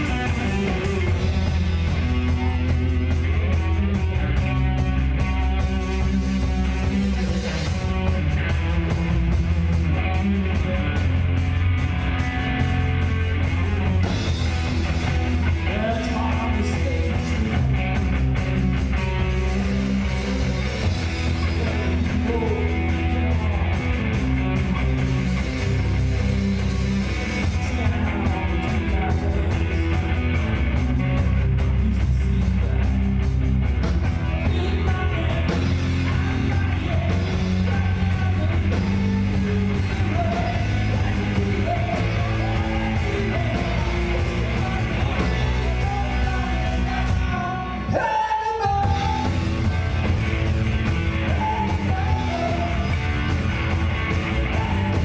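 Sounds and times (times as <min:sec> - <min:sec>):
bass guitar: 0:00.0 - 0:55.0
drum kit: 0:00.0 - 0:55.0
electric guitars: 0:00.0 - 0:55.0
singer's voice: 0:00.0 - 0:55.0.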